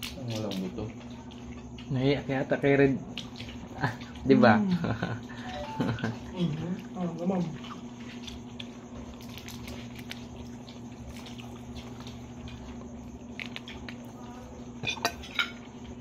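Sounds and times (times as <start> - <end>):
low electrical hum: 0.0 - 16.0
people eating by hand: 0.0 - 16.0.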